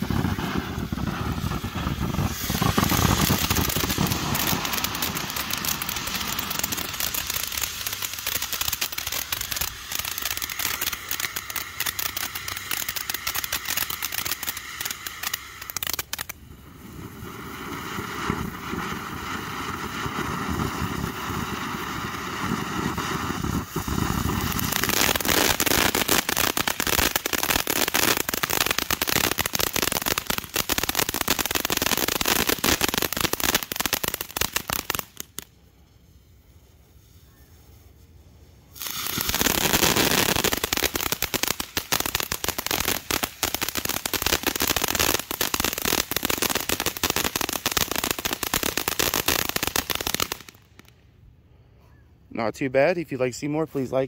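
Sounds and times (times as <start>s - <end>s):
firework fountain hissing: 0.0s - 51.0s
firework fountain crackling: 0.0s - 51.2s.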